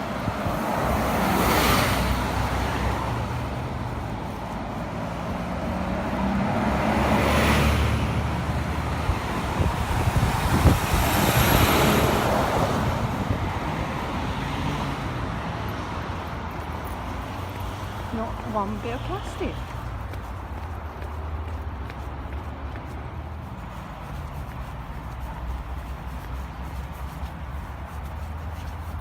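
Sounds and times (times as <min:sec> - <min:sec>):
low traffic rumble: 0:00.0 - 0:29.0
vehicles passing: 0:00.0 - 0:29.0.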